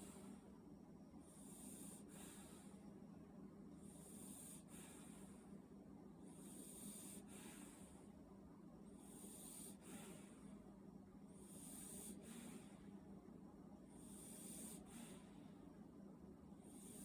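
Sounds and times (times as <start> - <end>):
puppy snoring softly: 0.0 - 3.1, 3.7 - 17.0.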